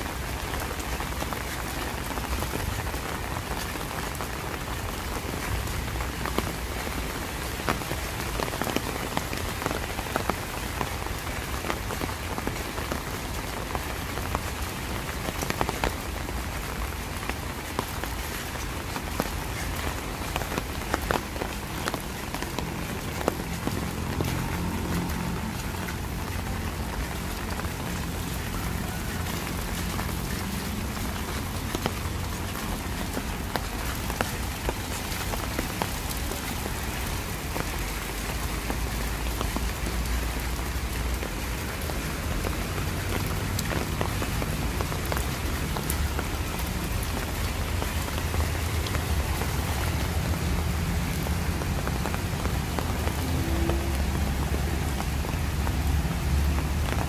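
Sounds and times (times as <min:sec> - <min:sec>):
rain on wet pavement: 0:00.0 - 0:57.0.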